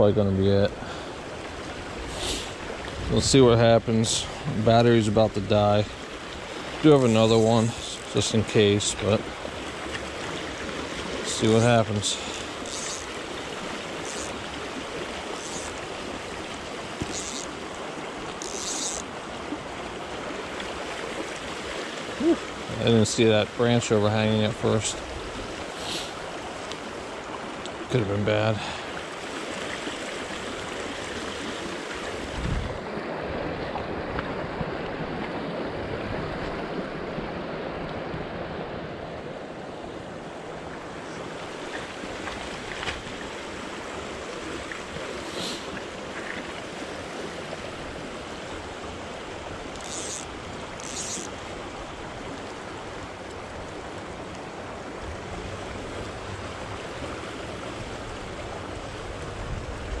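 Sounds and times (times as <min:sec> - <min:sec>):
creek water rushing over stones: 0:00.0 - 1:00.0.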